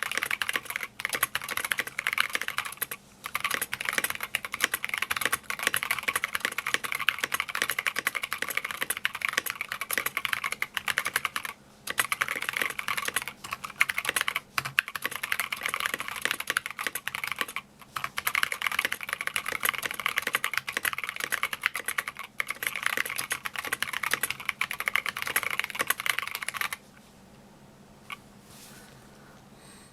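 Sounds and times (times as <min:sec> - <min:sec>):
fast typing on mechanical keyboard: 0:00.0 - 0:26.8
faint background static: 0:00.0 - 0:29.9.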